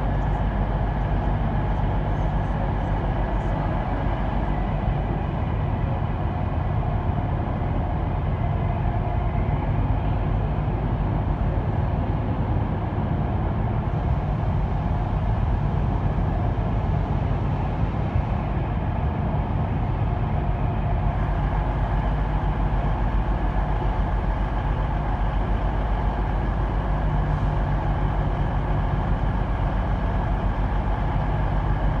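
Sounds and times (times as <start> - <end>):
train diesel engines idling: 0.0 - 32.0.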